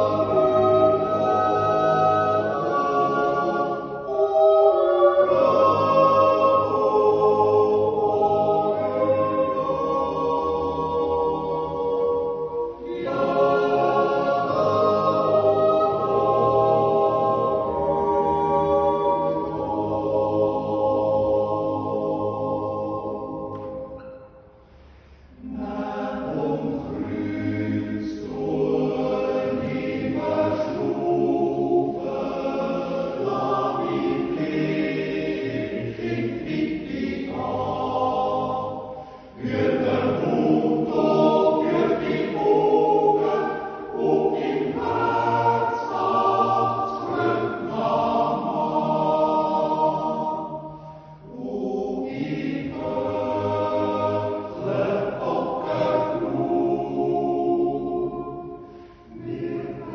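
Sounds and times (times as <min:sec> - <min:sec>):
men's choir yodeling a cappella: 0:00.0 - 0:24.1, 0:25.4 - 0:59.9.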